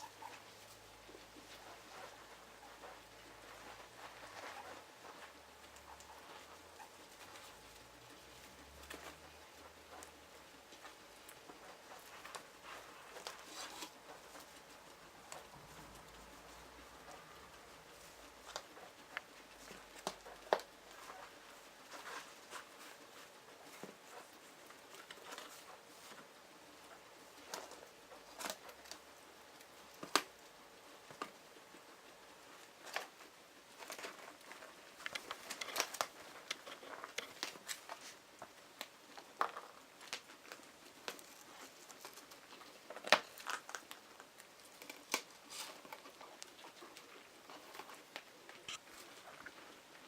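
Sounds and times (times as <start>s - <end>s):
soft rustling: 0.0s - 50.0s.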